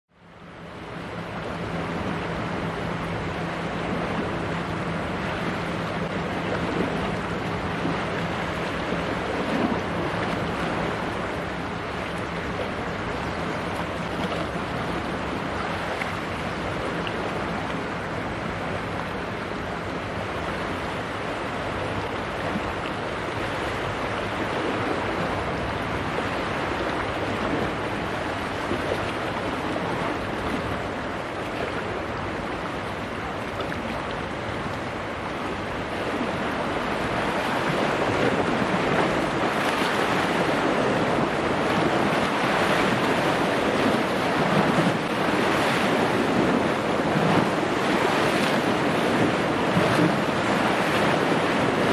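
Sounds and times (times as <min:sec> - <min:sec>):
choppy sea water: 0:00.1 - 0:51.9
wind on microphone: 0:01.0 - 0:51.9.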